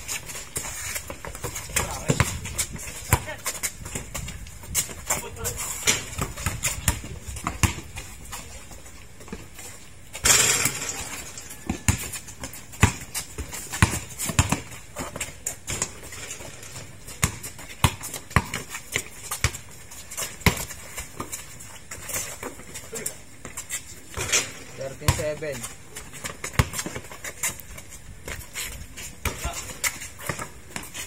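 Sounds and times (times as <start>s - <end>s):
basketball bouncing on concrete: 0.0s - 31.0s
footsteps on concrete court: 0.0s - 31.0s.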